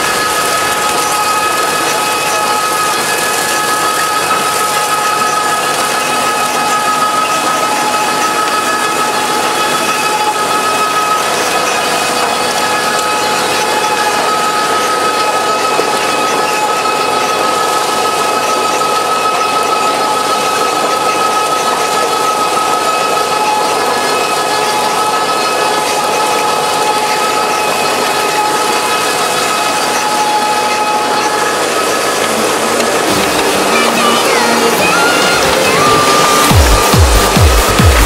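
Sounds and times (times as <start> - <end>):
constant machine whine: 0.0 - 38.0
harvester mechanical clatter: 0.0 - 38.0.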